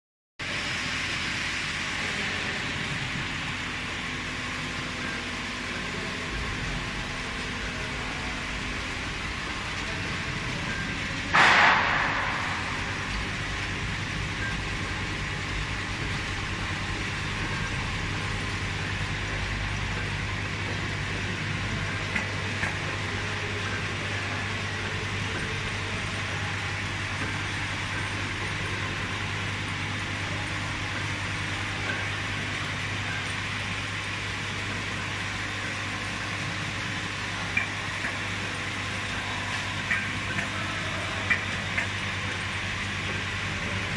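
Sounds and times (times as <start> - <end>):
filling machine whirring: 0.4 - 43.9.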